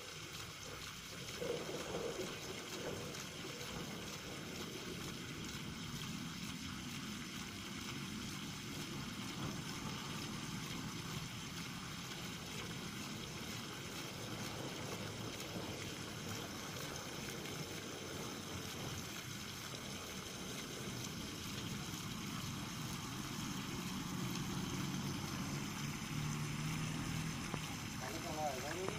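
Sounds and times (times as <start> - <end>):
water gushing onto grass: 0.0 - 28.9.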